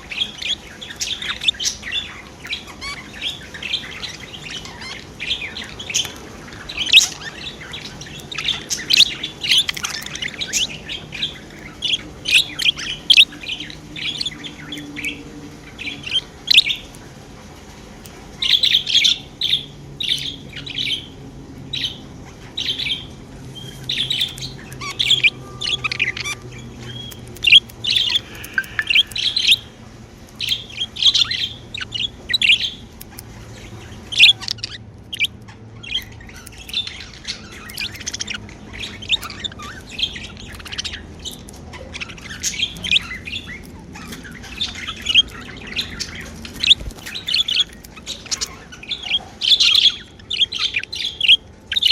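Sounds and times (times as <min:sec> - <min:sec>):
budgerigars chirping and warbling: 0:00.0 - 0:51.9.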